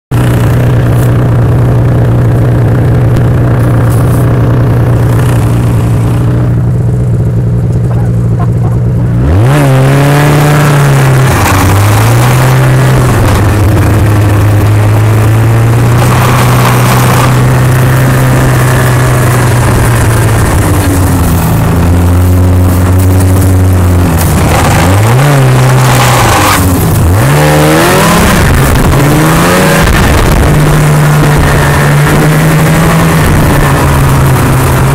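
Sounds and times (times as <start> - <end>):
snowmobile engine revving: 0.2 - 6.6, 7.8 - 34.9.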